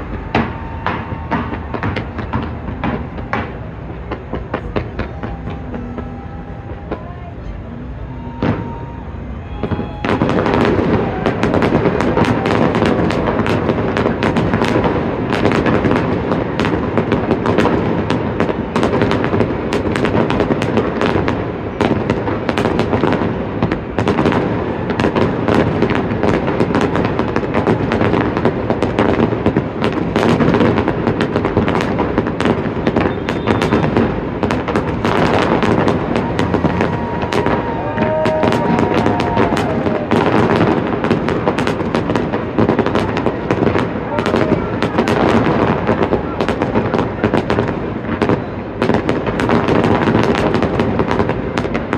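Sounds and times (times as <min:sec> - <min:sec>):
firework bursts: 0:00.0 - 0:51.9.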